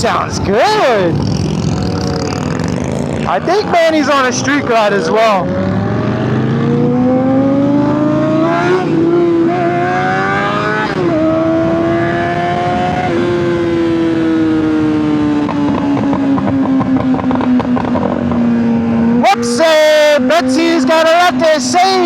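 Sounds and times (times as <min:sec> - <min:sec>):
sport bike engine revving: 0:00.0 - 0:22.0.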